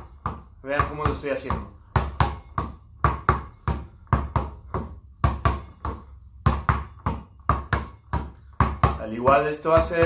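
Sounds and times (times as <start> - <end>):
basketball bouncing on floor: 0.0 - 10.0.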